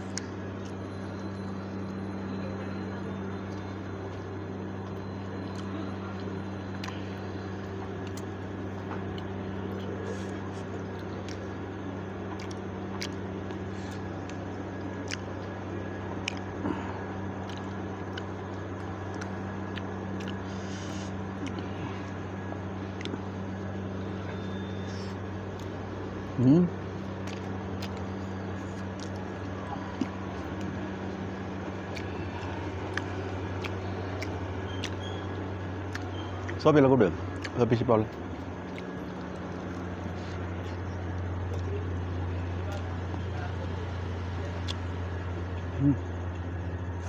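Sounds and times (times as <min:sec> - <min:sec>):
steady low hum: 0:00.0 - 0:47.0
person biting and chewing food: 0:05.0 - 0:36.6, 0:37.2 - 0:43.3.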